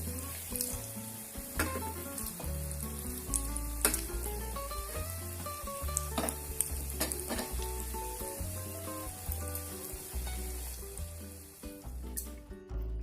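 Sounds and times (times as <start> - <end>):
patties sizzling in hot oil: 0.0 - 12.5.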